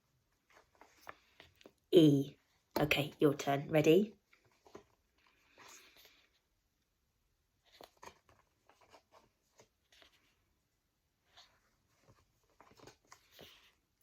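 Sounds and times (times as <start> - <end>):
faint rustles and clicks: 0.1 - 2.8, 4.2 - 6.6, 7.6 - 14.0.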